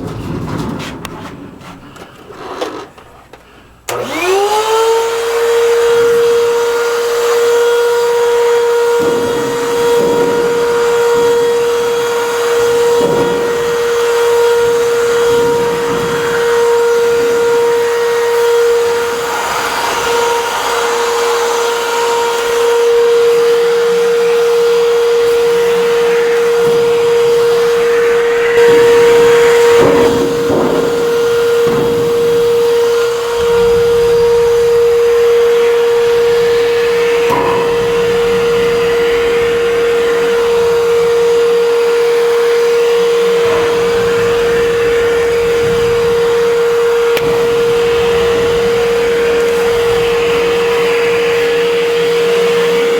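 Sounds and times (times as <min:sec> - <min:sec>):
suction rushing debris: 0:00.0 - 0:02.4, 0:06.8 - 0:52.9
vacuum cleaner motor whine: 0:02.0 - 0:52.9.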